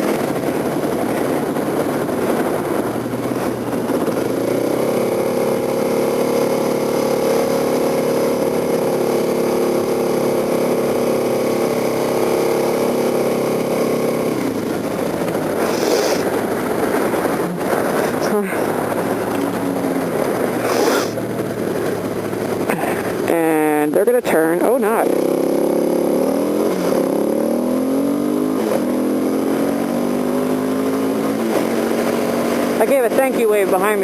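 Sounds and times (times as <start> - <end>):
motorcycle engine running: 0.0 - 34.0
wind rush on microphone: 0.0 - 34.0.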